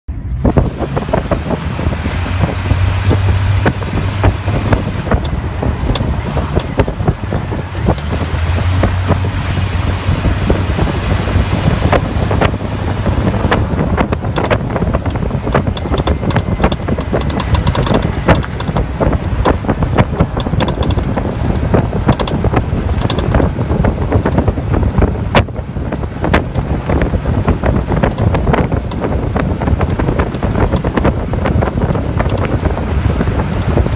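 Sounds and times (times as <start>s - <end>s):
road noise: 0.0s - 33.9s.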